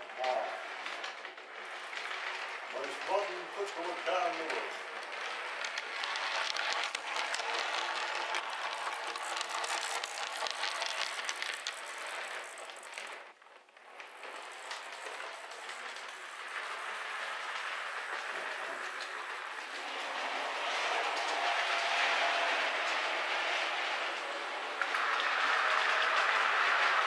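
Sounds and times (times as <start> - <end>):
wheels clicking on rails: 0.0 - 27.0.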